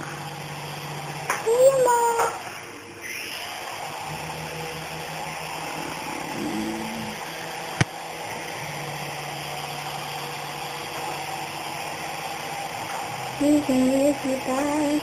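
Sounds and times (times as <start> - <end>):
small helicopter rotors whirring: 0.0 - 15.0.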